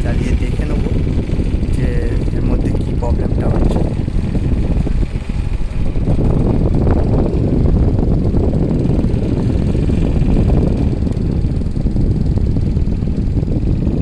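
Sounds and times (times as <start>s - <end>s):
air conditioner unit running: 0.0s - 14.0s.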